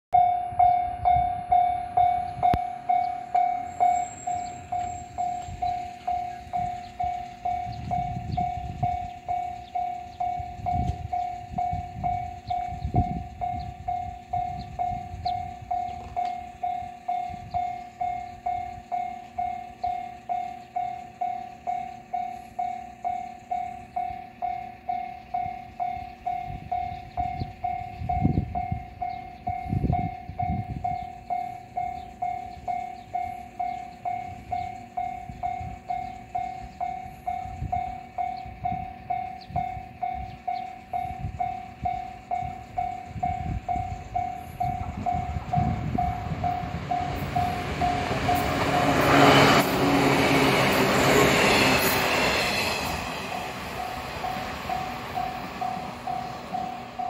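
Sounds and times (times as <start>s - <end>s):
level-crossing warning bell: 0.1s - 57.0s.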